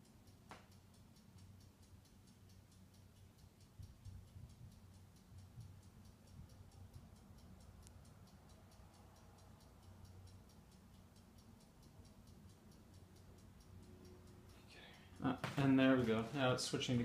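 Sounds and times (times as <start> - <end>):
rapid high ticking: 0.0 - 17.0.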